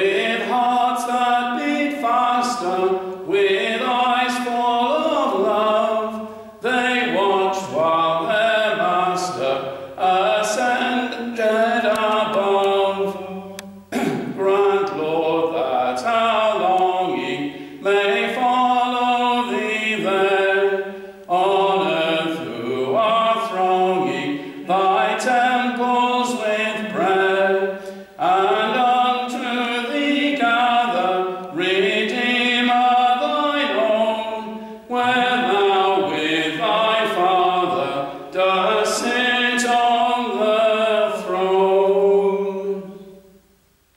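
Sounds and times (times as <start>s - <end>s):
voices chanting a hymn: 0.0s - 43.4s.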